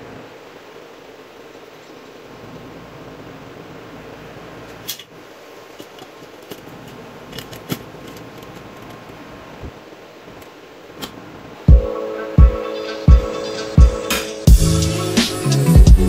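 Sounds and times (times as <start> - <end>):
fan-like hum: 0.0 - 15.9.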